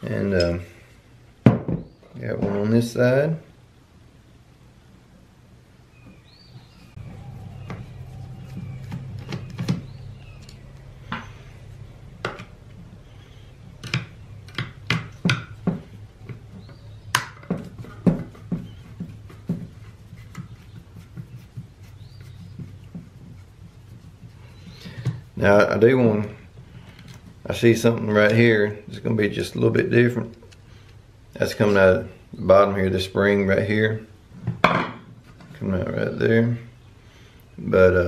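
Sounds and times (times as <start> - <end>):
steady low hum: 2.2 - 38.0.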